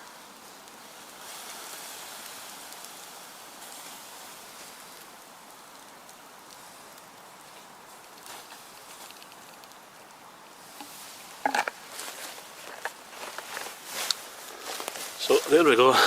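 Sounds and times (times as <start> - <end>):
doused embers hissing: 0.0 - 16.0.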